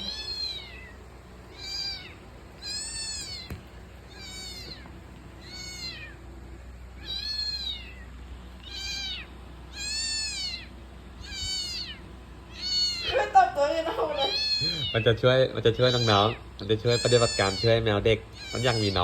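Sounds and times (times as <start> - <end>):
kitten meowing: 0.0 - 6.2, 7.0 - 13.4, 14.1 - 19.0.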